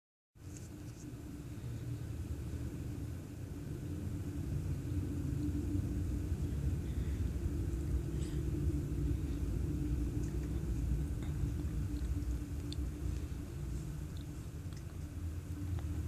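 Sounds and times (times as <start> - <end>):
steady hum: 0.4 - 16.0
low rumble: 0.5 - 16.0.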